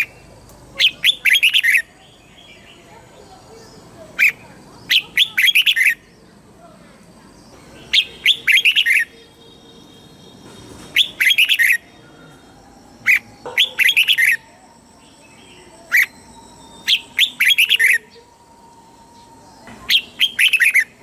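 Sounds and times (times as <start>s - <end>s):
bird singing whistled phrases: 0.8s - 6.2s, 7.8s - 9.4s, 10.9s - 21.0s.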